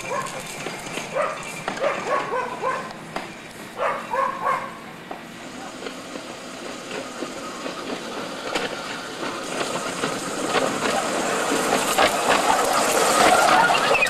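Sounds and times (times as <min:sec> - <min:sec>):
model streetcar wheels clicking: 0:00.0 - 0:14.0.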